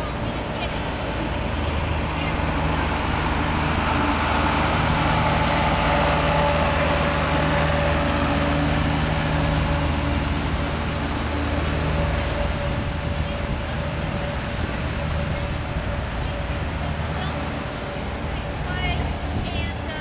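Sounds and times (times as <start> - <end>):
truck engine driving past: 0.0 - 20.0.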